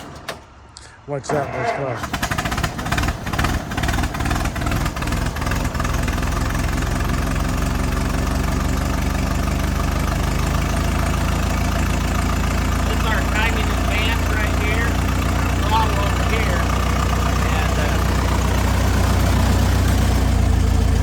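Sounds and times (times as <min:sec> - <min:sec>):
car engine running unevenly: 0:01.4 - 0:21.0.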